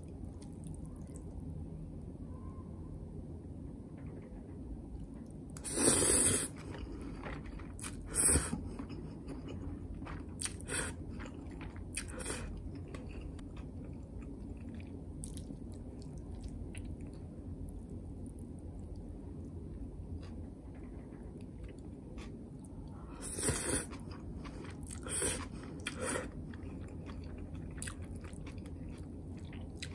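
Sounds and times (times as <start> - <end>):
person chewing noodles: 0.0 - 1.4, 5.5 - 29.9.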